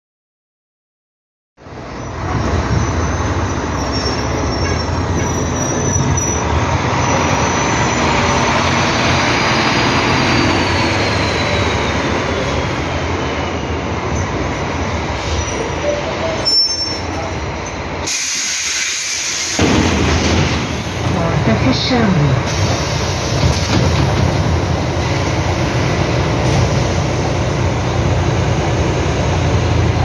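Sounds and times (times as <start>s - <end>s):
bus engine rumble: 1.6s - 30.0s
road noise: 1.6s - 30.0s.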